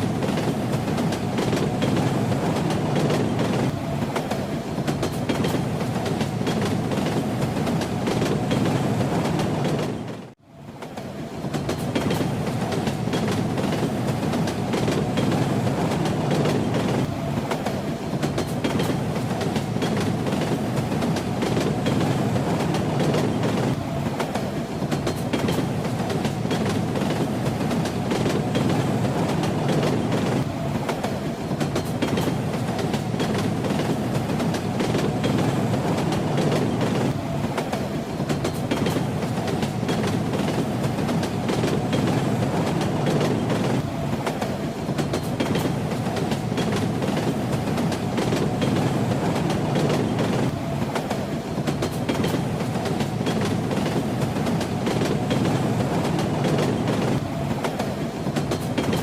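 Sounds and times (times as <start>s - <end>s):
railway carriage rumble: 0.0s - 59.0s
wheels clacking over rail joints: 0.0s - 59.0s.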